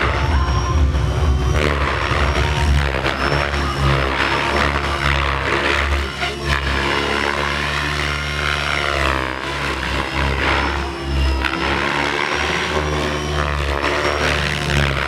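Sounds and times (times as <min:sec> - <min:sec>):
model helicopter rotor whining: 0:00.0 - 0:15.0.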